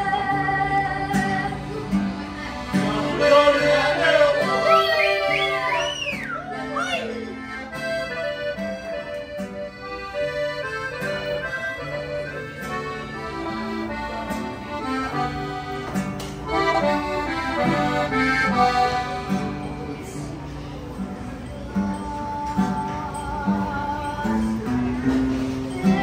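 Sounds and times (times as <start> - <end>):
accordion melody: 0.0 - 26.0.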